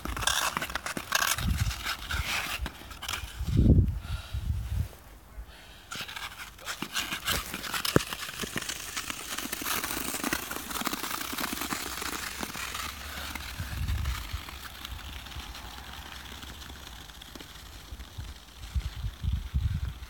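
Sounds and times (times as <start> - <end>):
skates scraping over icy road: 0.0 - 3.8, 5.8 - 20.0.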